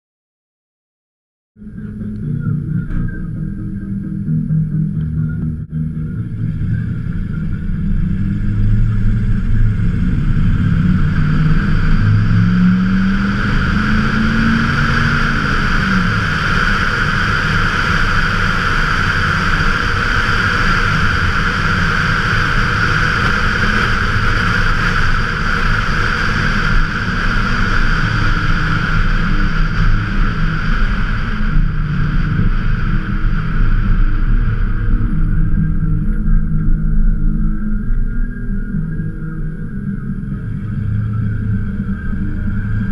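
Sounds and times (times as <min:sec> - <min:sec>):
truck engine driving: 0:01.6 - 0:42.9
wind and road noise: 0:01.8 - 0:42.9.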